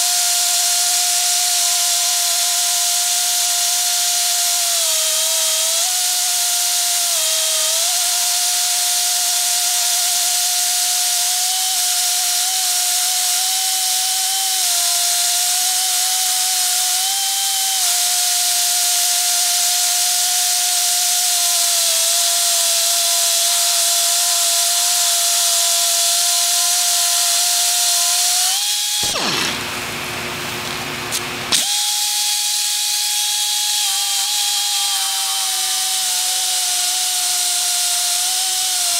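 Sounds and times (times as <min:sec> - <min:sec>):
electric motor whining: 0:04.8 - 0:30.0, 0:30.6 - 0:38.9.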